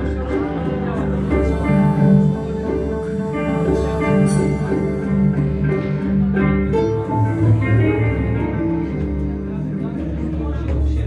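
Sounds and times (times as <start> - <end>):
ambient music with held tones: 0.0 - 11.0
plucked notes: 0.0 - 11.0.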